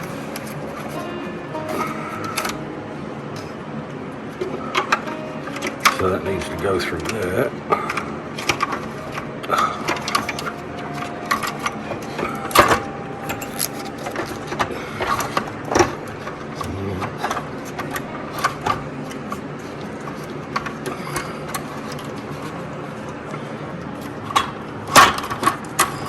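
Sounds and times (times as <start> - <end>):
parts clicking and rattling: 4.3 - 26.0.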